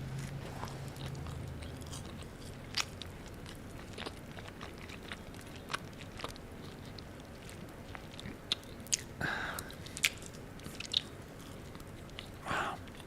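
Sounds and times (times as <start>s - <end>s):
chewing mouth sounds: 0.0s - 13.0s
crunchy bites: 0.0s - 13.0s.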